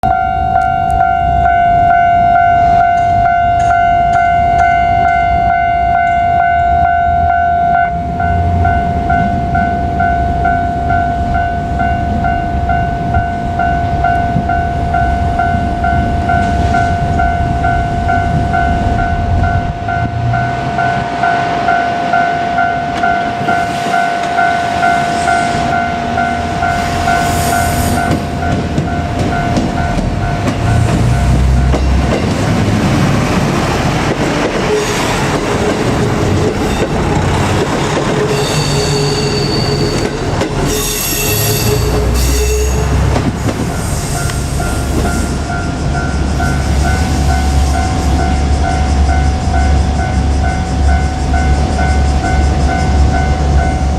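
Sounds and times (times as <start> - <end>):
level-crossing bell dinging: 0.0 - 32.2, 37.8 - 43.0, 43.7 - 53.9
diesel railcar engine rumble: 0.0 - 53.9
high-pitched squeals: 0.0 - 53.9
train wheel noise: 8.0 - 53.9.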